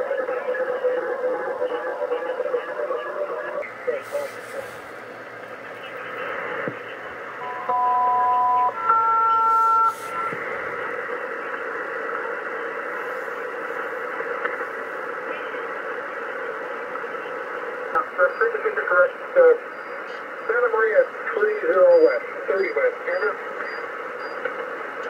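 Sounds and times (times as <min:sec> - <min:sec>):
radio receiver hiss: 0:01.2 - 0:25.0.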